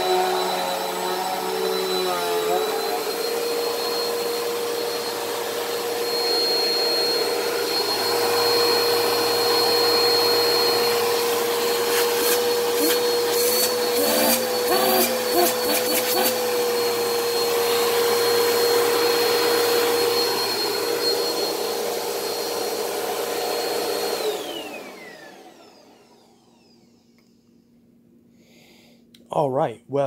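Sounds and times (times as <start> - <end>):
vacuum cleaner motor whine: 0.0 - 27.8.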